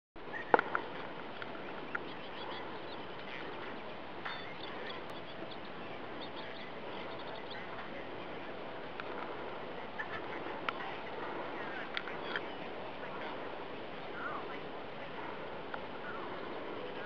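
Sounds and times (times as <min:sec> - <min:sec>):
outdoor background hiss: 0:00.2 - 0:17.0
small birds chirping: 0:00.2 - 0:17.0.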